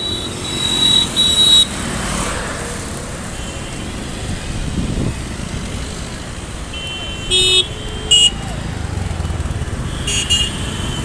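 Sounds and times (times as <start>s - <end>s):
cars and motorcycles passing: 0.0s - 11.0s.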